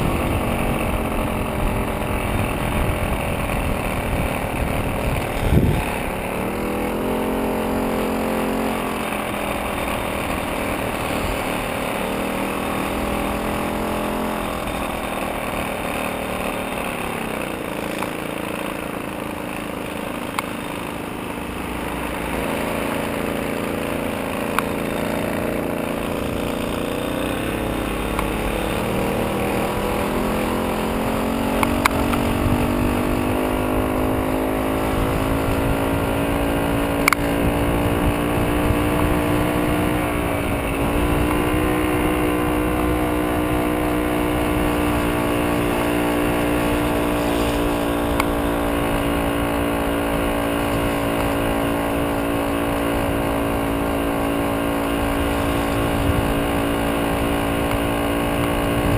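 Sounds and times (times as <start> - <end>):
moped engine running: 0.0 - 58.9
wind and road noise: 0.0 - 58.9.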